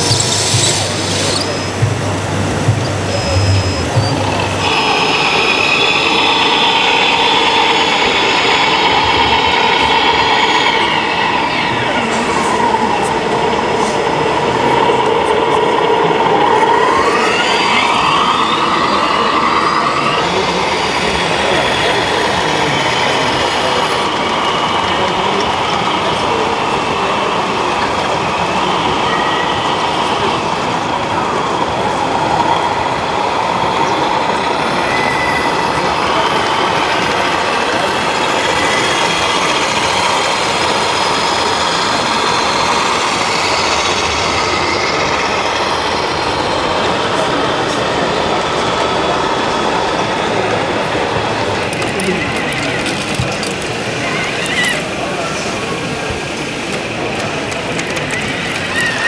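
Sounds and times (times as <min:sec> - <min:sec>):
crowd chatter: 0:00.0 - 0:59.0
radio-controlled model trucks running: 0:00.0 - 0:59.0.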